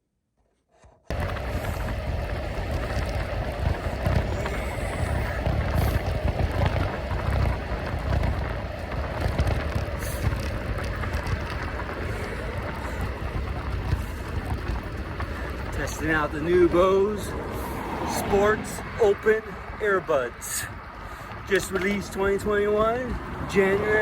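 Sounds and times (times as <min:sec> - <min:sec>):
continuous hum: 0:01.1 - 0:24.0
wind buffeting microphone: 0:01.1 - 0:24.0.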